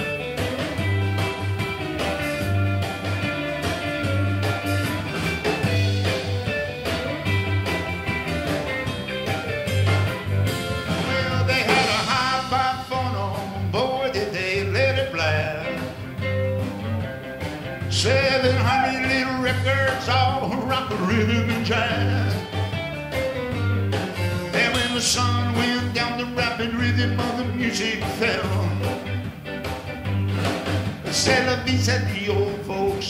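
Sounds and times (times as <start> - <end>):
drum kit: 0.0 - 33.0
electric bass: 0.0 - 33.0
electric guitar lead: 0.0 - 33.0.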